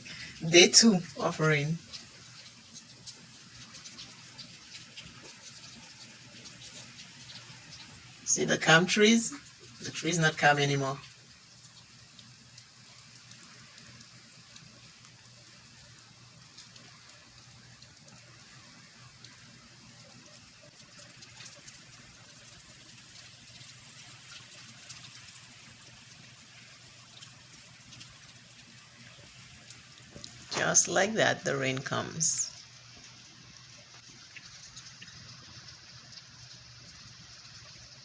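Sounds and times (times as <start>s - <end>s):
faint steady rain: 0.0s - 38.0s.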